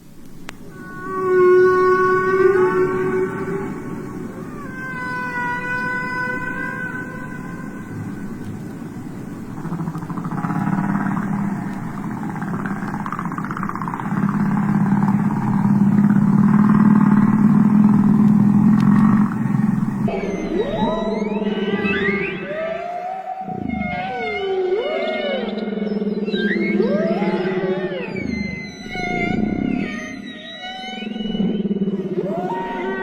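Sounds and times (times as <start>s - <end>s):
whale calls: 0.6s - 33.0s.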